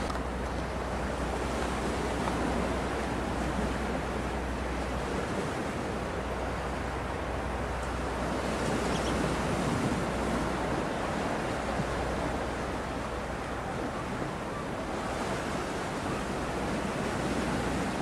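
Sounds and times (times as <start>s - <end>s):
seawater noise: 0.0s - 18.0s
wind: 0.0s - 18.0s.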